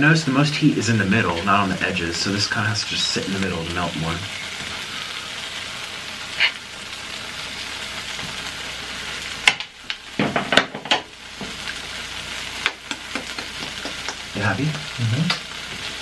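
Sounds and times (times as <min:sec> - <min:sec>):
cheese and oil sizzling: 0:00.0 - 0:16.0.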